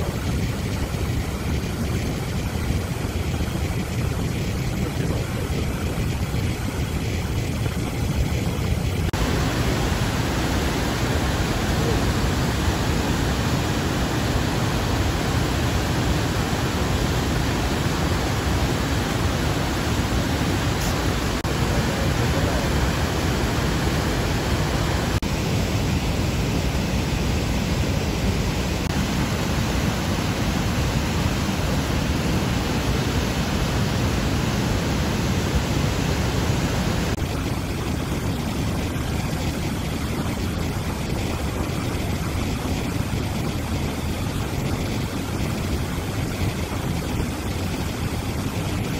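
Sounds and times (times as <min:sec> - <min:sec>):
waterfall and rapids rushing: 0:00.0 - 0:48.9.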